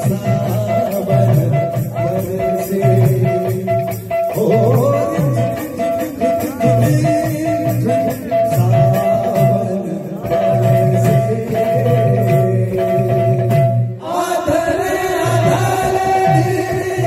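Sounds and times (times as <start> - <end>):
hand drum beating: 0.0 - 17.0.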